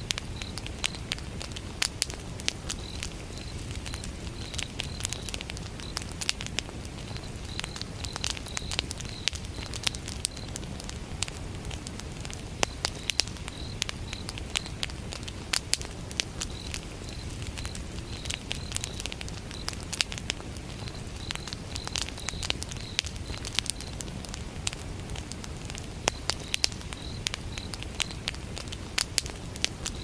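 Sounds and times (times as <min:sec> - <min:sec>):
campfire crackling and popping: 0:00.0 - 0:30.0
cricket chirping: 0:00.0 - 0:30.0.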